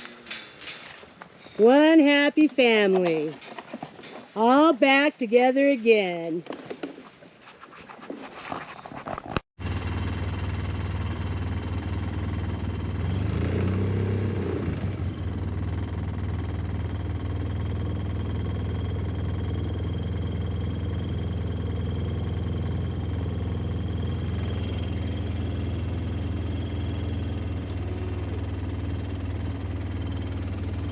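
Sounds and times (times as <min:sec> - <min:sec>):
engine humming: 0:00.0 - 0:05.2, 0:09.6 - 0:30.9.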